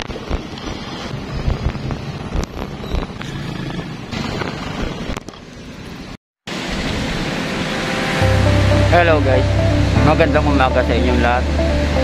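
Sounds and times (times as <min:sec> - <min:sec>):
cars and motorcycles passing: 0:00.1 - 0:12.0.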